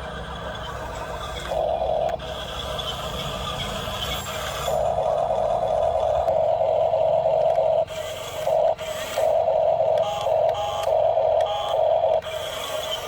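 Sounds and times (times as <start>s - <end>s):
small electric gear motor whirring: 0.0s - 13.0s.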